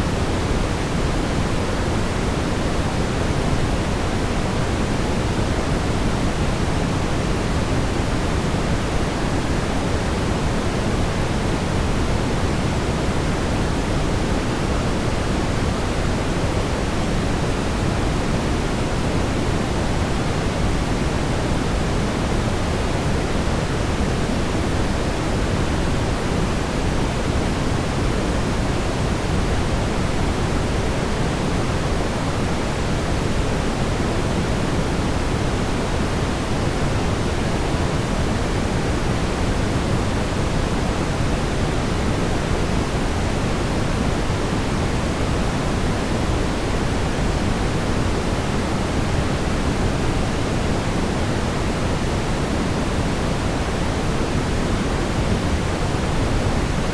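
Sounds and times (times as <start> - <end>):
brown noise hiss: 0.0 - 56.9.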